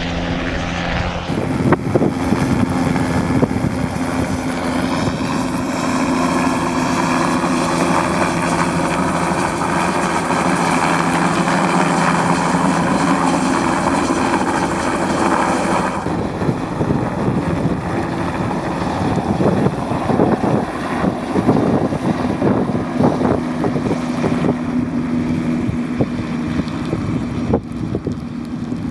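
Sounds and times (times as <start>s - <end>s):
helicopter engine and rotor hum: 0.0s - 28.9s
wind gusting on microphone: 0.0s - 28.9s.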